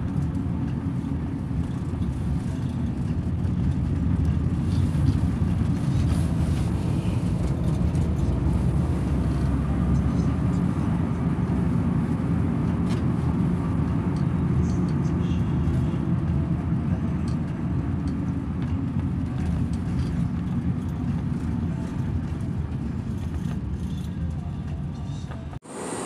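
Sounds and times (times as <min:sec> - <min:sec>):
vehicle engine and tyre rumble: 0:00.0 - 0:26.0.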